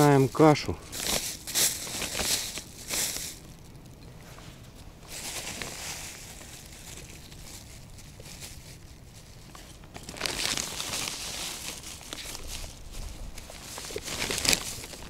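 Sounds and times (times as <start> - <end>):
plastic bags crinkling and rustling: 0.0 - 15.0.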